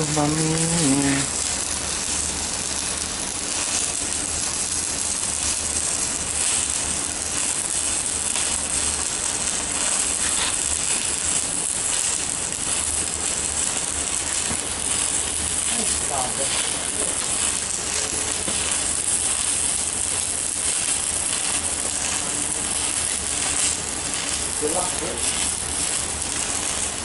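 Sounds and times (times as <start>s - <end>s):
low welder hum: 0.0s - 27.0s
welding arc crackling: 0.0s - 27.0s.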